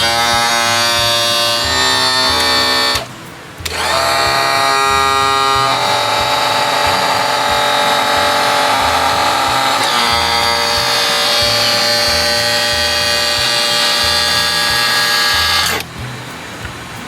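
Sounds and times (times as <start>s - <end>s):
pump motor whining: 0.0s - 16.9s.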